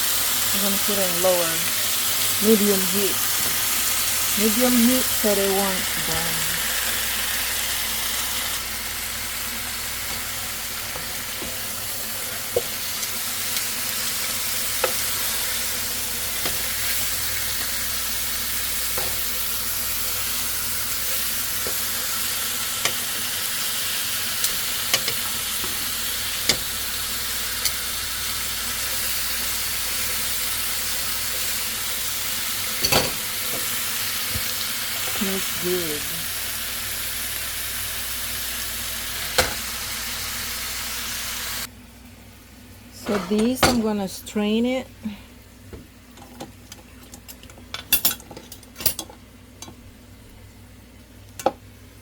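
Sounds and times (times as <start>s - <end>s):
chicken sizzling in a pan: 0.0s - 41.7s.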